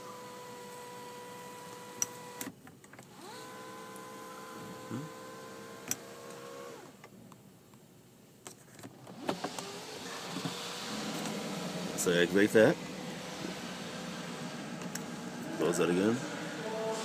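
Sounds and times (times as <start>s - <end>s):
electric sunroof motor whining: 0.0s - 2.5s, 3.1s - 7.0s, 9.0s - 17.0s.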